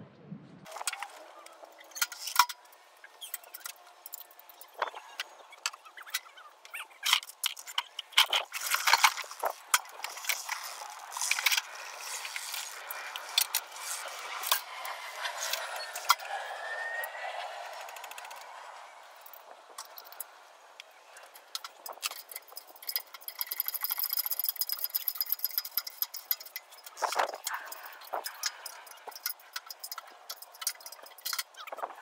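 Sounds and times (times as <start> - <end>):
metal clanks and rattles: 0.7 - 16.2, 21.2 - 32.0.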